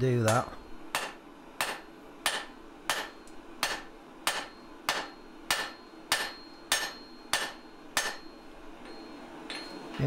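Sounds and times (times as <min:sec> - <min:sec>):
hammer striking steel on anvil: 0:00.2 - 0:10.0.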